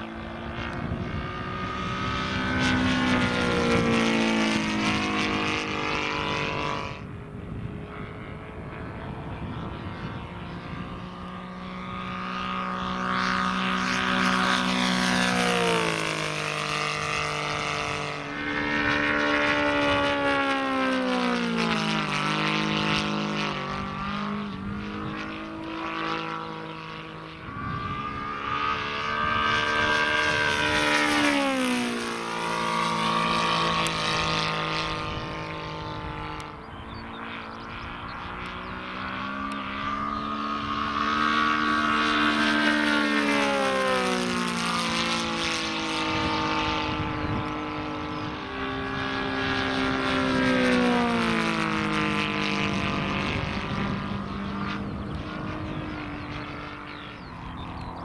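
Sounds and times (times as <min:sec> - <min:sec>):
model plane engine passing: 0:00.0 - 0:58.0.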